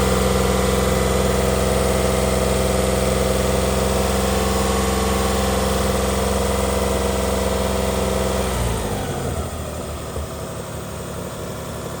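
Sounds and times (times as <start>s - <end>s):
car engine idling: 0.0s - 12.0s
engine winding down: 0.0s - 12.0s.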